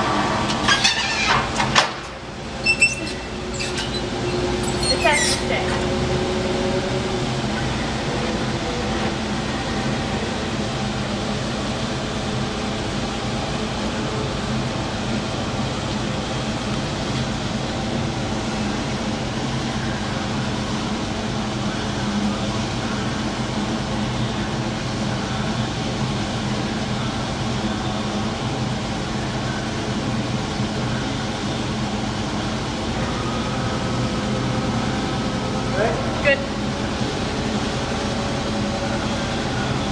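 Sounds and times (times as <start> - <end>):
forklift engine humming: 0.0 - 39.9.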